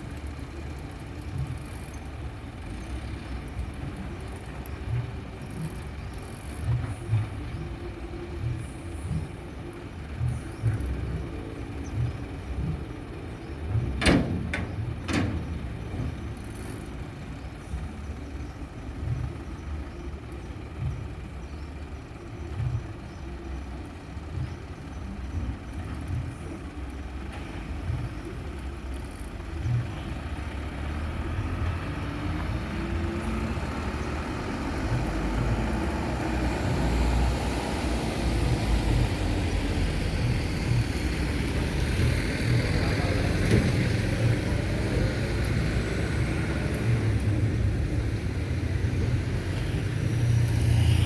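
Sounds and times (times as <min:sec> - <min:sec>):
heavy vehicle engine rumbling: 0:00.0 - 0:51.0.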